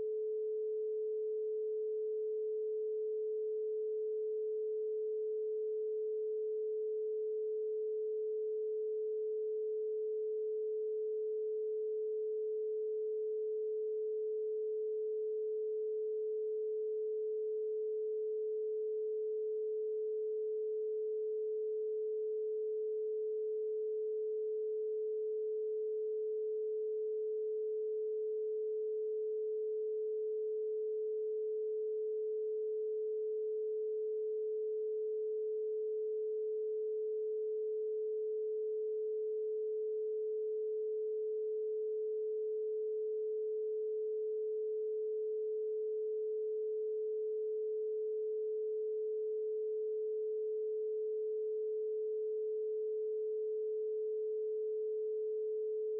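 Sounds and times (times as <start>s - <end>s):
steady electronic sine tone: 0.0s - 55.9s.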